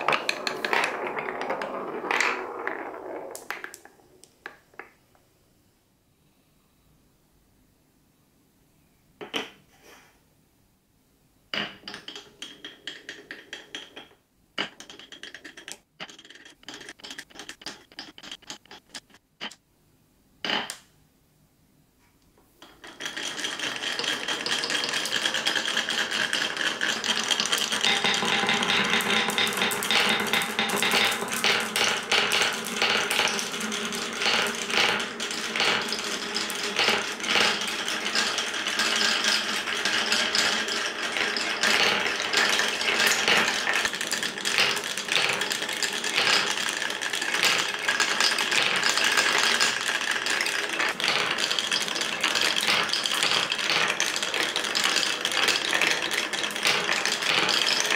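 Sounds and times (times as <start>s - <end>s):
marbles clattering on wooden run: 0.0s - 5.0s, 11.6s - 19.6s, 22.6s - 57.9s.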